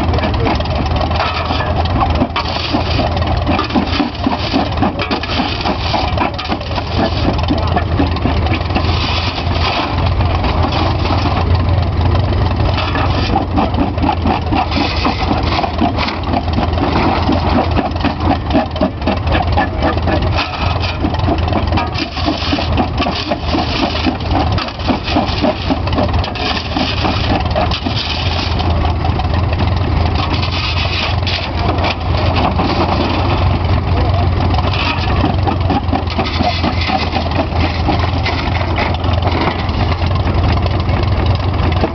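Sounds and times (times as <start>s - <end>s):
rock crusher clattering: 0.0s - 41.9s
tractor engine running: 0.0s - 41.9s.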